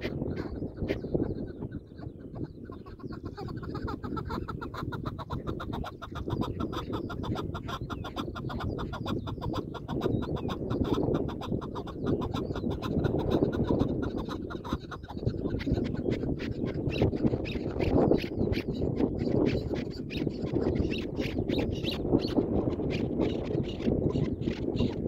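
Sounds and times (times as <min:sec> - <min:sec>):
partridge clucking calls: 0:00.0 - 0:25.0.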